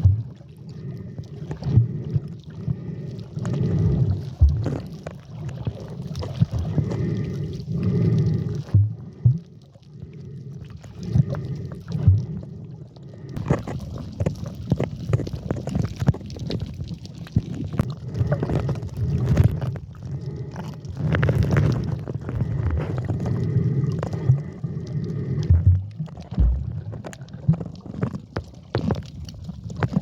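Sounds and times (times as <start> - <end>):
low underwater rumbles: 0.0 - 30.0
muffled water sloshing: 0.0 - 30.0.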